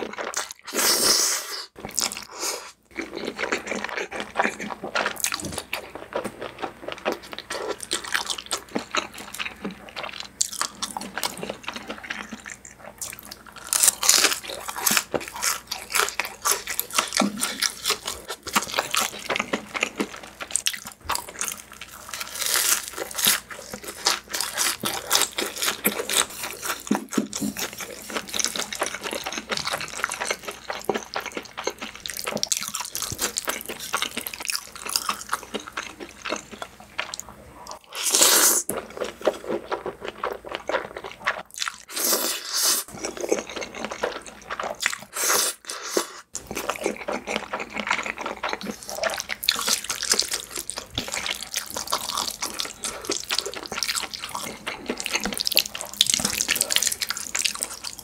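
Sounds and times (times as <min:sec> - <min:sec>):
wet chewing with crunchy bites: 0:00.0 - 0:01.2, 0:01.8 - 0:58.0.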